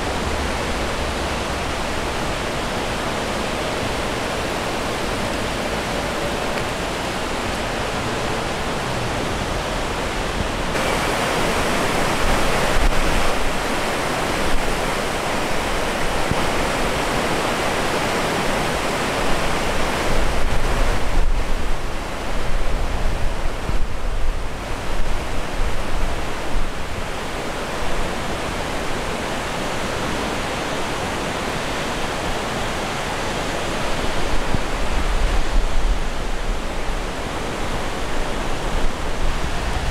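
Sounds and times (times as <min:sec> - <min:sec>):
wind buffeting microphone: 0:00.0 - 0:29.1, 0:31.4 - 0:39.9
river water rushing: 0:00.0 - 0:39.9.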